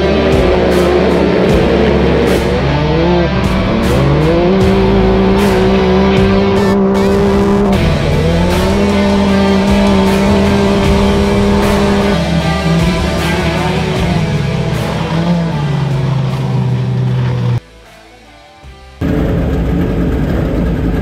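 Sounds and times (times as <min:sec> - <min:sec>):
race car engine revving: 0:00.0 - 0:17.6.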